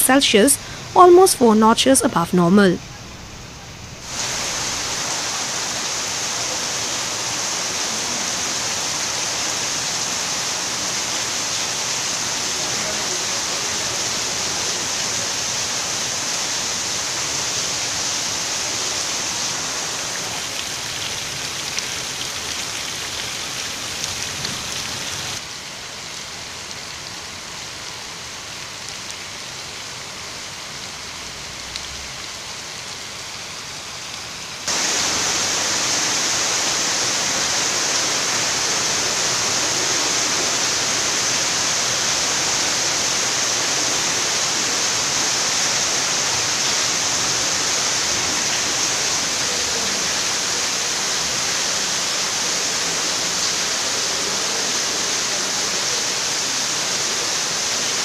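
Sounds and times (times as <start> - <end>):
heavy rain falling: 0.0 - 58.0
rainwater pouring off roof: 3.2 - 58.0.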